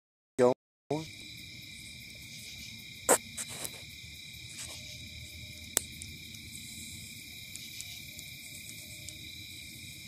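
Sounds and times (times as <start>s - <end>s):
night insects chirring: 0.4s - 10.0s.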